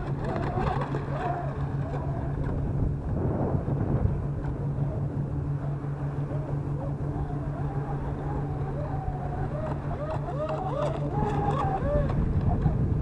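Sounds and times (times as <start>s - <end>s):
rc boat motors whining: 0.0s - 13.0s
waves: 0.0s - 13.0s
wind: 0.0s - 13.0s.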